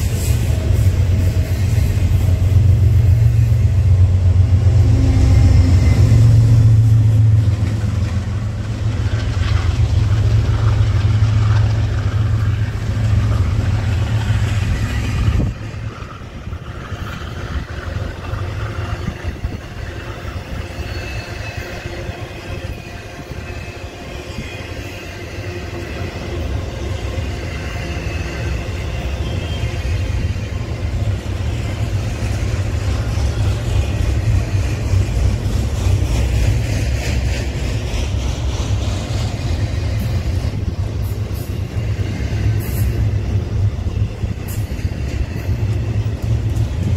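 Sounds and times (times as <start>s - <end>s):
freight train rumbling past: 0.0s - 46.9s
rail cars clattering: 0.0s - 46.9s.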